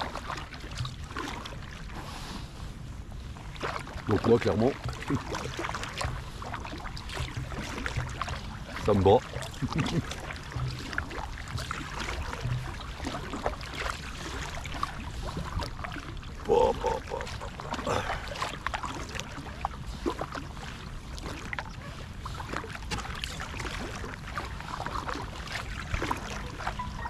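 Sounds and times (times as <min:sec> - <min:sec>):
paddle strokes in water: 0:00.0 - 0:27.0
water splashes and drips: 0:00.0 - 0:27.0.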